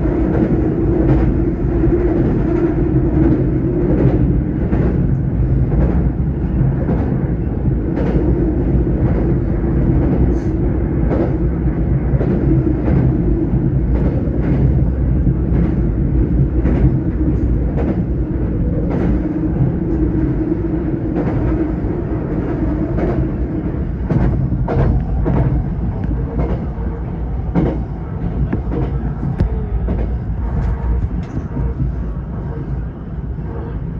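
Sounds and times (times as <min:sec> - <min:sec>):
subway train wheels rumbling: 0:00.0 - 0:33.9.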